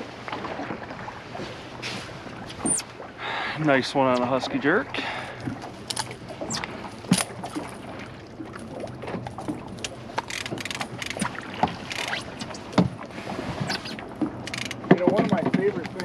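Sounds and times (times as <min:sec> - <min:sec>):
boat outboard motor running: 0:00.0 - 0:16.0.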